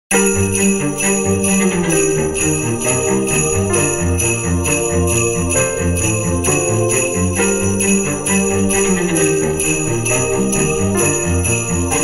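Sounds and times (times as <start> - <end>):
christmas music: 0.1 - 12.0
sleigh bells jingling: 0.1 - 12.0.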